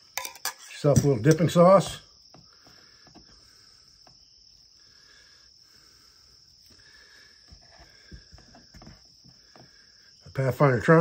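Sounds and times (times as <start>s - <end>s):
faint insects trilling: 0.0s - 11.0s.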